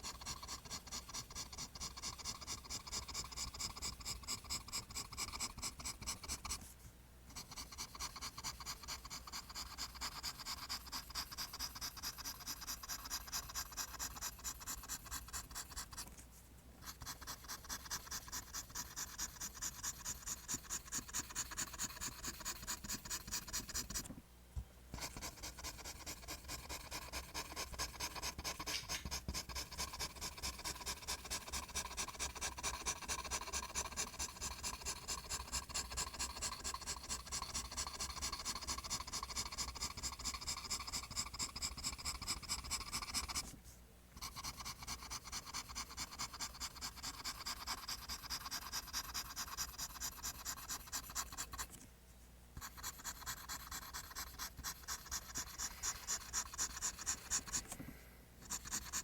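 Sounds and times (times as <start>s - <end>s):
pencil scratching on paper: 0.0s - 6.7s, 7.3s - 16.2s, 16.8s - 24.1s, 25.0s - 43.5s, 44.2s - 51.8s, 52.6s - 57.8s, 58.4s - 59.0s.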